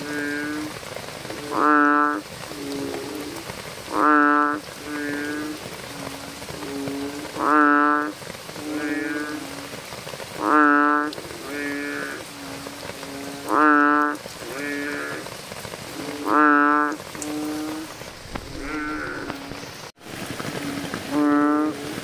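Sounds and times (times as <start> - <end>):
frog calling: 0.0 - 9.8, 10.4 - 15.3, 15.9 - 19.7, 20.6 - 22.0
rain hissing: 0.0 - 22.0.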